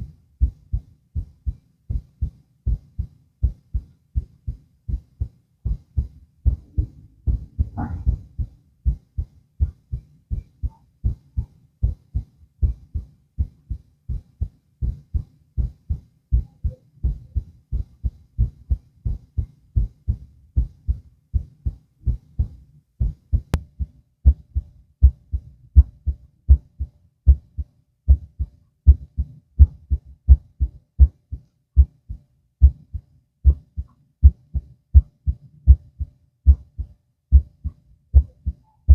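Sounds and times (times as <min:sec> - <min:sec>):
heartbeat through stethoscope: 0:00.0 - 0:38.9.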